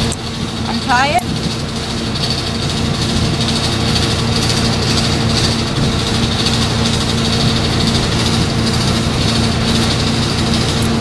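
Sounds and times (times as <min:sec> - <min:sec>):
motor droning: 0:00.0 - 0:11.0.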